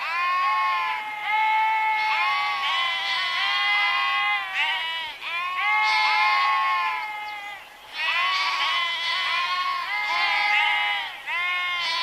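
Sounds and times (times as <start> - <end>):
sheep bleating: 0.0 - 12.0.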